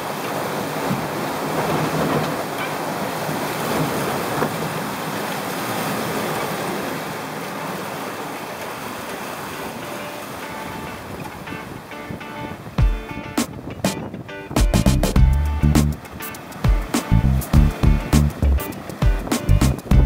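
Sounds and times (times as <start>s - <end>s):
water rushing in boat wake: 0.0s - 20.0s
wind: 0.0s - 20.0s.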